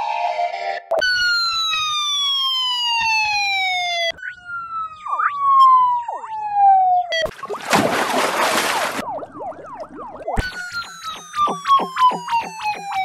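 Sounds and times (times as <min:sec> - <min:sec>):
police siren wail: 0:01.0 - 0:07.3, 0:08.6 - 0:13.0
siren swooping chirps: 0:01.0 - 0:07.5, 0:08.6 - 0:13.0.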